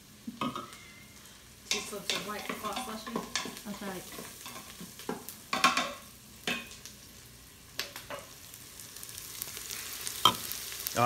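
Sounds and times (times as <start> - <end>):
onions sizzling in grease: 0.0 - 11.0.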